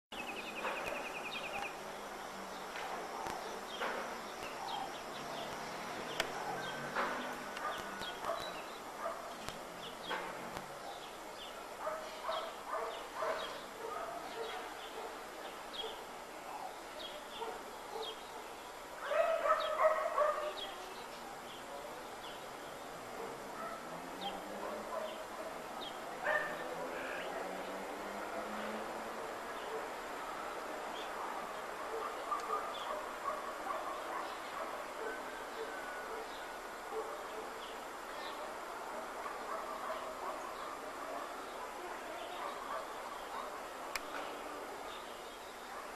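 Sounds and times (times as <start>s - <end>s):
steady outdoor hiss: 0.1s - 45.9s.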